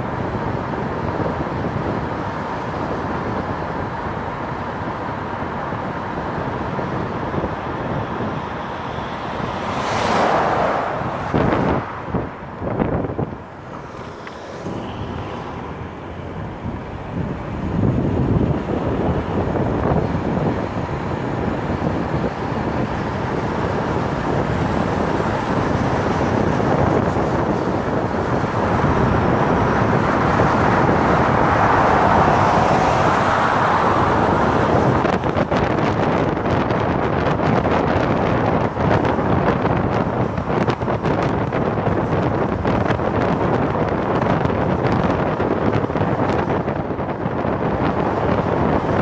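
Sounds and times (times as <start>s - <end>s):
tyre and road noise: 0.0s - 49.0s
wind rushing over microphone: 0.0s - 49.0s.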